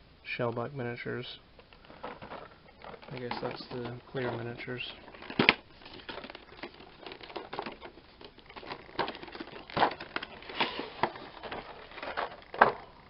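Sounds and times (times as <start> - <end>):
plastic packaging crinkling: 1.6 - 13.0.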